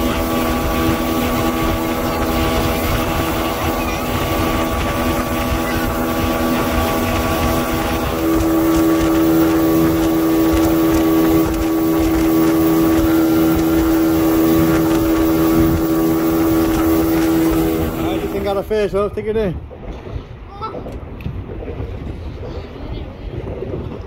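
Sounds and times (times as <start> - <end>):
outboard motor running: 0.0 - 23.8
rushing water: 0.0 - 23.9
wind: 0.0 - 24.0.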